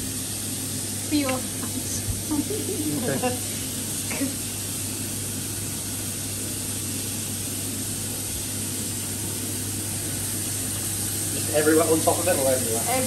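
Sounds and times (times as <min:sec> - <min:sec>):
steady low hum: 0:00.0 - 0:13.0
steak sizzling in a pan: 0:00.0 - 0:13.0.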